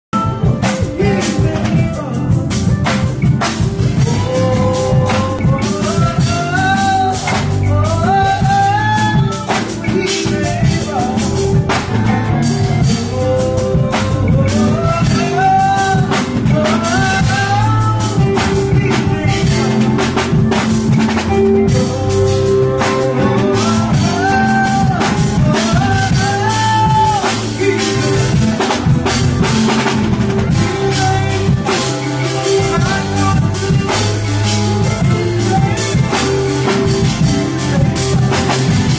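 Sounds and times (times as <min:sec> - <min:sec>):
held bass notes: 0:00.0 - 0:38.9
keyboards: 0:00.0 - 0:38.9
drum kit with cymbal hits: 0:00.1 - 0:38.9
sliding melody line: 0:00.2 - 0:38.9.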